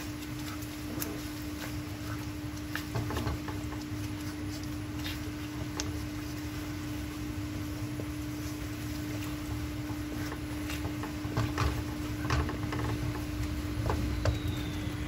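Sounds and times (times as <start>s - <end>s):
steady low hum: 0.0s - 15.0s
wooden spatula stirring puree: 0.0s - 15.0s.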